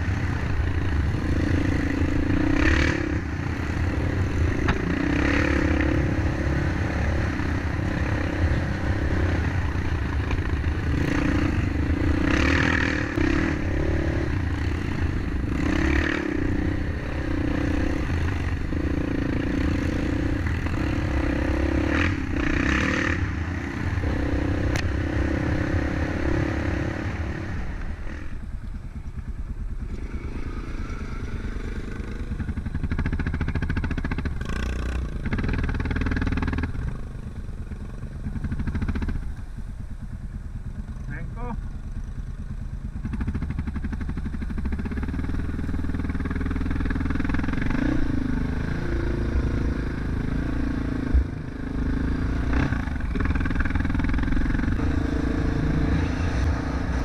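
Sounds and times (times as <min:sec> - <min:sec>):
quad bike engine revving: 0:00.0 - 0:28.4, 0:29.8 - 0:39.3, 0:40.8 - 0:57.0.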